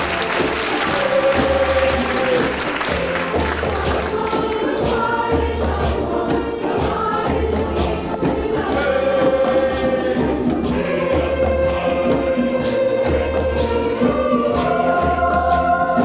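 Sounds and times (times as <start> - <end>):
choir singing in parts: 0.0 - 16.0.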